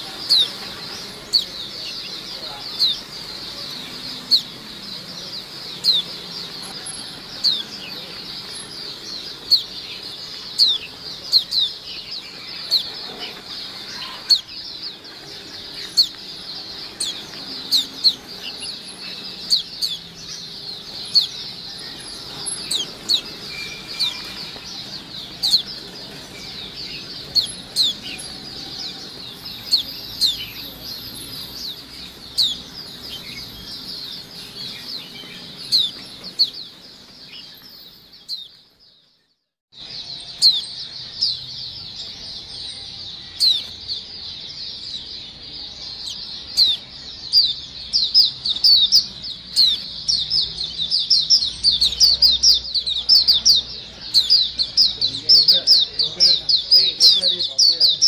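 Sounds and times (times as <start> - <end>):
birds twittering in chorus: 0.0 - 58.0.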